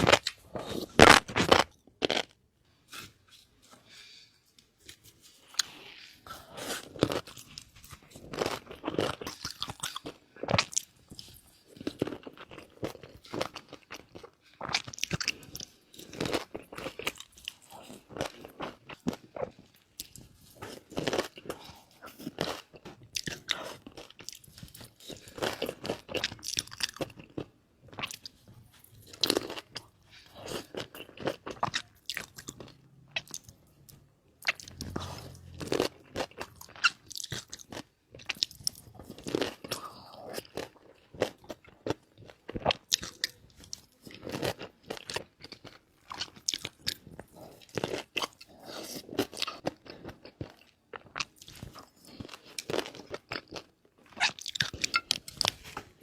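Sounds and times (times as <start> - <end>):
crunchy chewing: 4.8 - 56.0.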